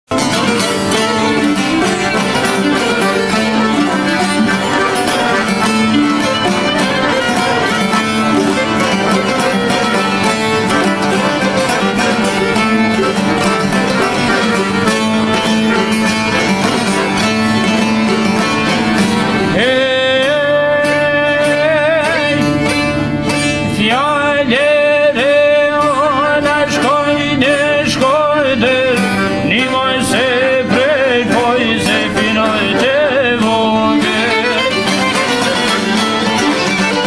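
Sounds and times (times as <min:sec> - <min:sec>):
person singing: 0:00.1 - 0:15.0, 0:19.3 - 0:23.0, 0:23.6 - 0:36.7
fiddle playing melody: 0:00.1 - 0:37.0
plucked string instruments: 0:00.1 - 0:37.0.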